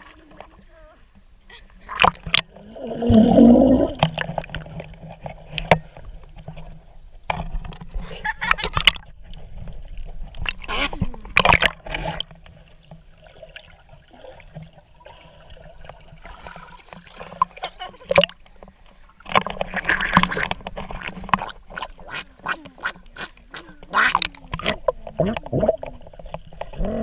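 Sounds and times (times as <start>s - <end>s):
water splashing and gurgling: 0.0s - 27.0s.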